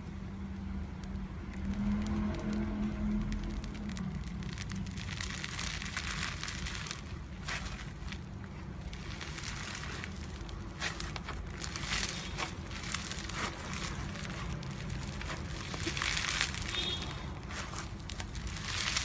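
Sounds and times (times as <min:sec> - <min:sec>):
slime crackling and popping: 0:00.5 - 0:19.0.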